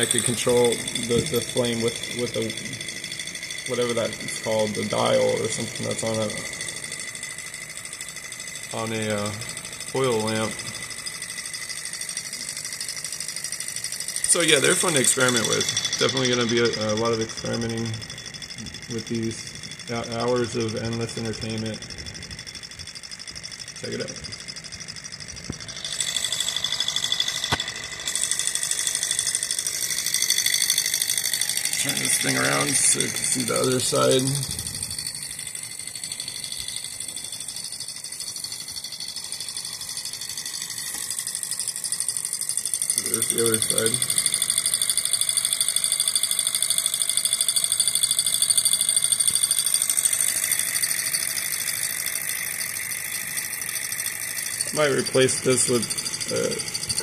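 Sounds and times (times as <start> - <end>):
small engine mechanical clatter: 0.0 - 57.0.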